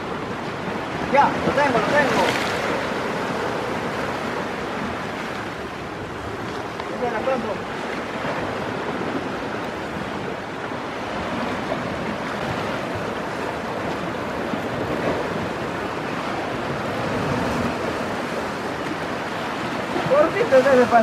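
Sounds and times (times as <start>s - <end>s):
surf washing against rocks: 0.0s - 21.0s.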